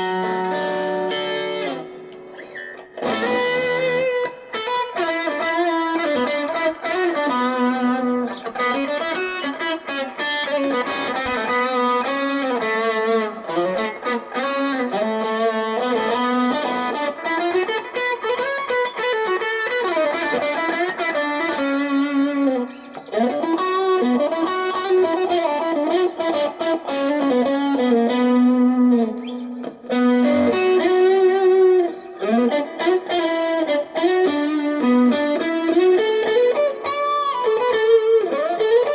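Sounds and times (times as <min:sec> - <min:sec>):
electric guitar lead melody: 0:00.0 - 0:38.9.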